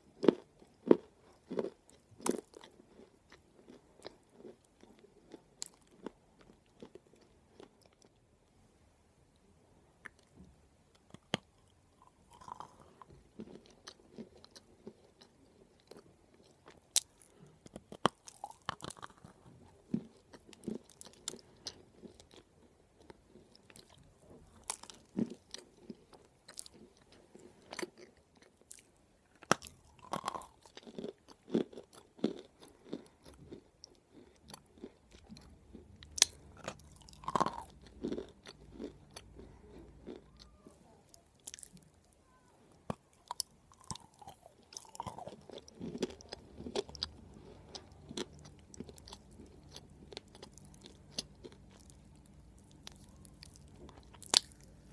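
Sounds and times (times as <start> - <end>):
chewing crunches: 0.2 - 8.2, 10.9 - 42.1, 42.8 - 54.9.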